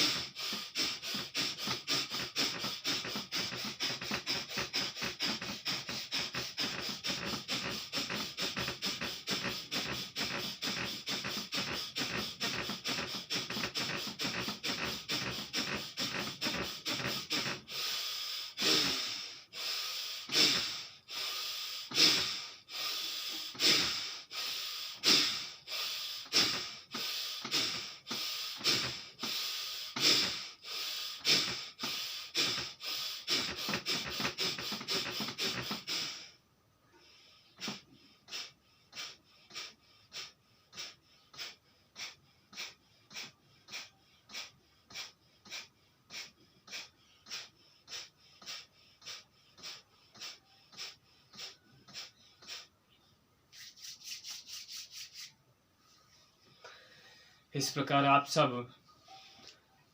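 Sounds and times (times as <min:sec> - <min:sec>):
forceful nasal breathing: 0:00.0 - 0:59.7.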